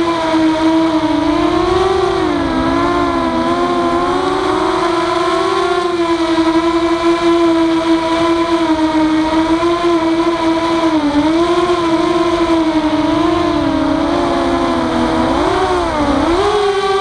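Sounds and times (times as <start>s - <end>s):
quadcopter motors whining: 0.6s - 17.0s.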